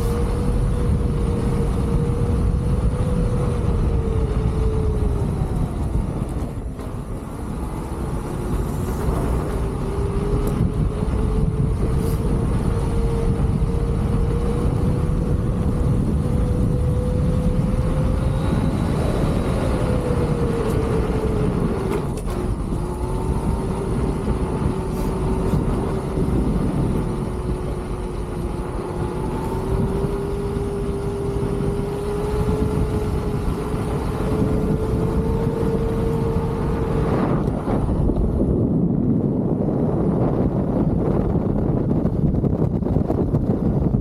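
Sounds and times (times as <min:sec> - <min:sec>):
electric motor whining: 0:00.0 - 0:38.4
wind rushing on microphone: 0:00.0 - 0:44.0.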